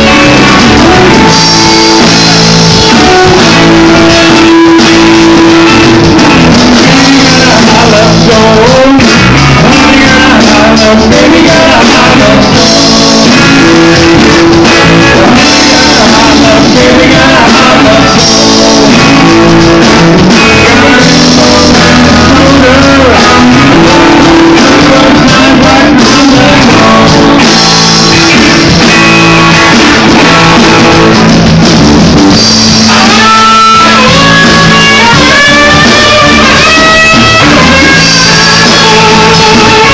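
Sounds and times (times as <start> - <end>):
electric guitars: 0.0 - 39.9
live rock band playing: 0.0 - 39.9.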